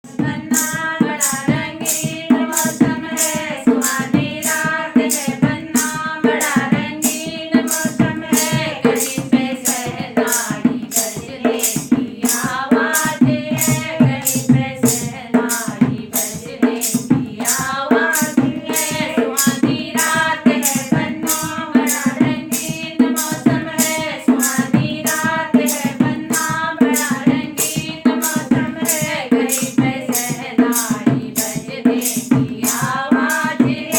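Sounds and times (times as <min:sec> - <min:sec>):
person singing folk song: 0:00.0 - 0:33.9
drum beat: 0:00.1 - 0:33.9
rattle shaking: 0:00.6 - 0:33.9.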